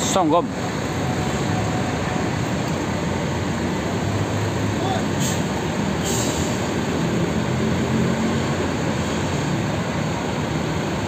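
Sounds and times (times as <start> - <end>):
bus terminal rumble: 0.0 - 11.0
diesel bus engine droning: 0.0 - 11.0.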